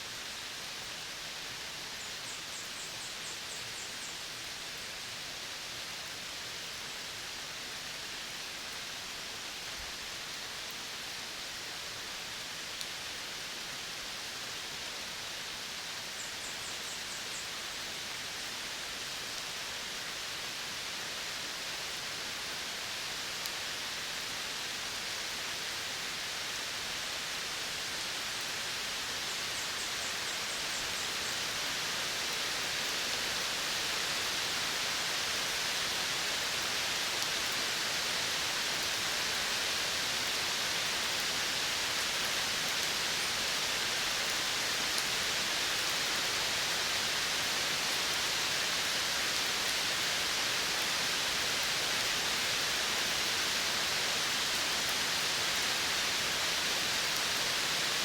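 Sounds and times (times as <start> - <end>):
steady outdoor hiss: 0.0 - 58.0.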